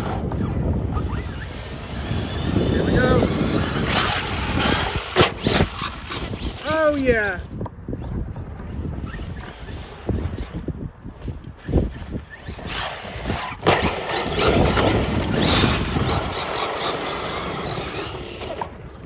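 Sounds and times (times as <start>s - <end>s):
electric motor whining: 0.0s - 19.0s
tyres churning dirt: 0.0s - 19.0s.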